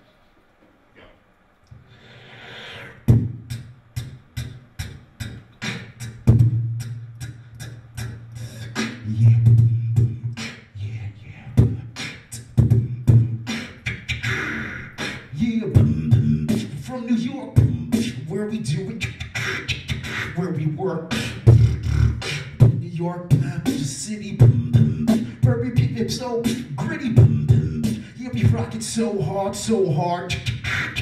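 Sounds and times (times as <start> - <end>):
man beatboxing into microphone: 2.0 - 31.0.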